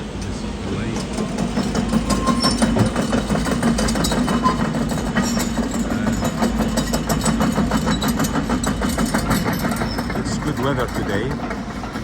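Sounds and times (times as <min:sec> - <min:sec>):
diesel machinery clattering: 0:00.0 - 0:12.0.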